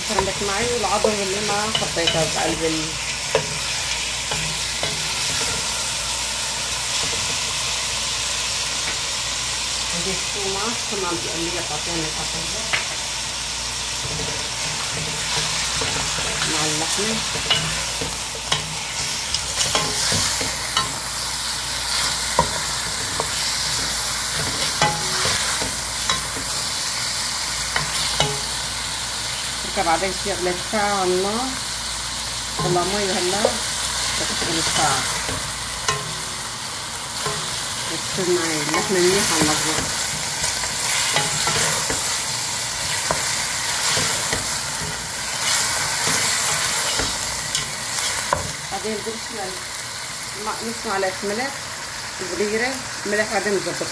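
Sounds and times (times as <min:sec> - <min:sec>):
meat sizzling in oil: 0:00.0 - 0:53.9.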